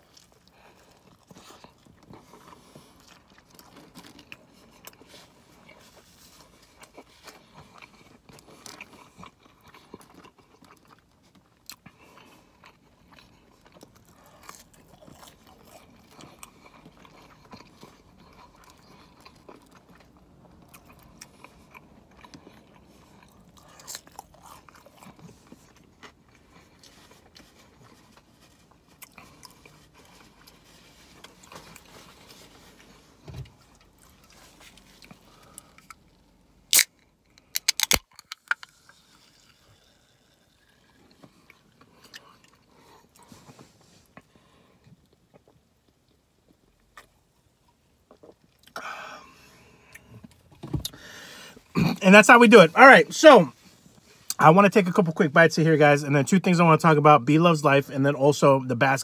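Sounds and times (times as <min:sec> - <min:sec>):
person chewing crispy food: 0:00.0 - 0:54.4.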